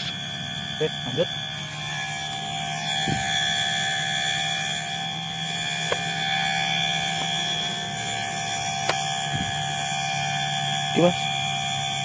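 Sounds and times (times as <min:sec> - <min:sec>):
low steady hum: 0:00.0 - 0:12.0
night insects buzzing and trilling: 0:00.0 - 0:12.0.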